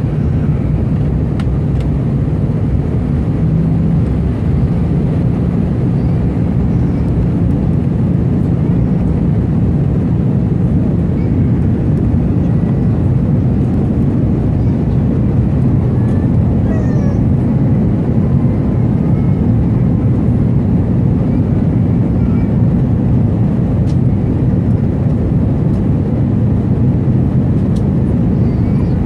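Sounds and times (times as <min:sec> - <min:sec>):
airplane cabin roar: 0:00.0 - 0:29.0.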